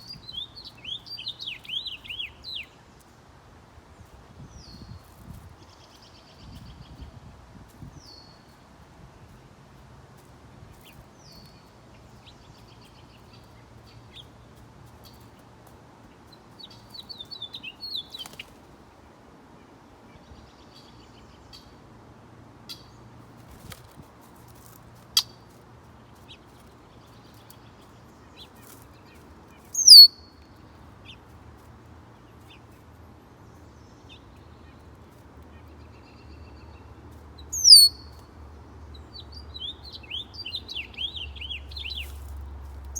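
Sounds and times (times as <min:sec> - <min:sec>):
songbirds chirping: 0:00.0 - 0:42.9.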